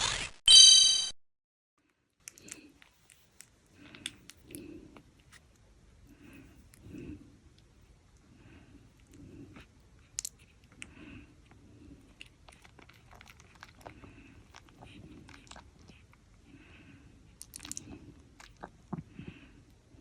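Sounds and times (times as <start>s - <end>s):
puppies chewing and clicking: 2.2s - 16.6s, 17.3s - 19.9s.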